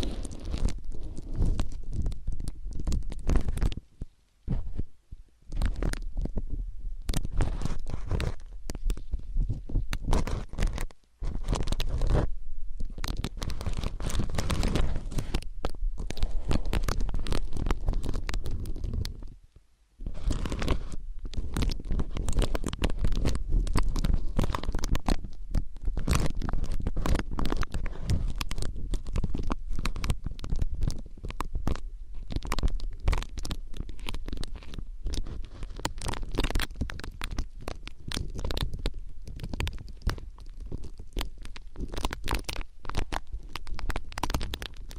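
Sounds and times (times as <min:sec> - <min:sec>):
ear pick scraping microphone: 0:00.0 - 0:19.4, 0:20.0 - 0:43.5.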